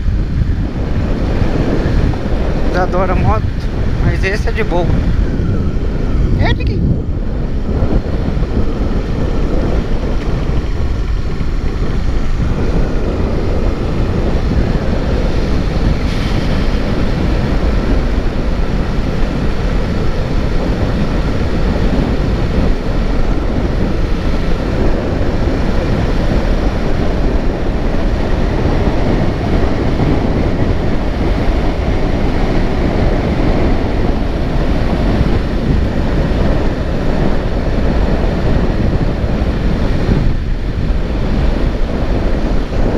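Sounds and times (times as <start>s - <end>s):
vehicle and road noise: 0.0s - 42.9s
wind on microphone: 0.0s - 42.9s.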